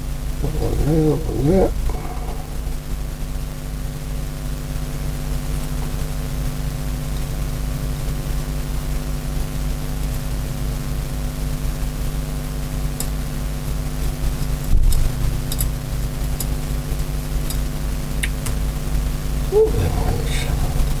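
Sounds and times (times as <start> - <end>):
constant hiss: 0.0 - 21.0
machine hum: 0.0 - 21.0.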